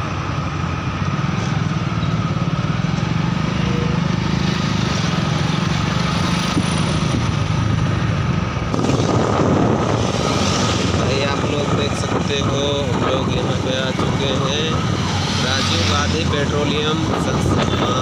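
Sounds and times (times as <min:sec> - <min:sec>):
road noise: 0:00.0 - 0:18.0.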